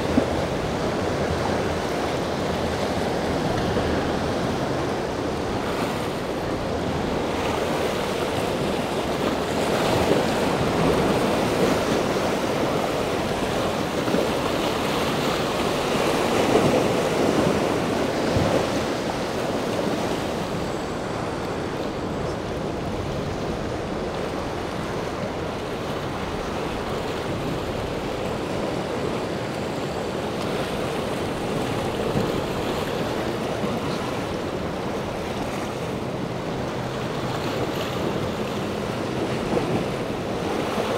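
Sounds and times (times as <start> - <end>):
boat wake breaking: 0.0 - 40.9
rushing water of waves: 0.0 - 40.9.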